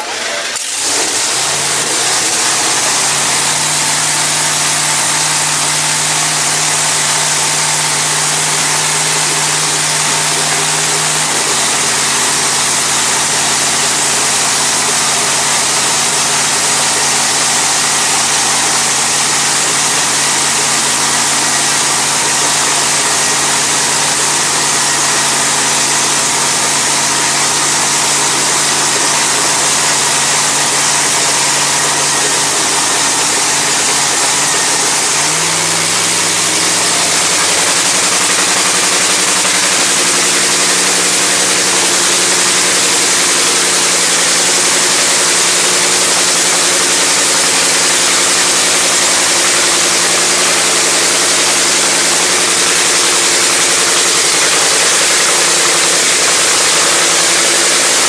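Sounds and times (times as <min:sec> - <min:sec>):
dragster engine idling loudly: 0:00.0 - 0:58.0.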